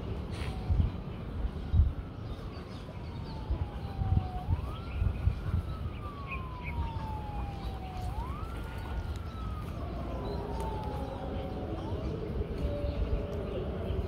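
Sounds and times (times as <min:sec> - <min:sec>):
siren wailing: 0:00.1 - 0:14.0.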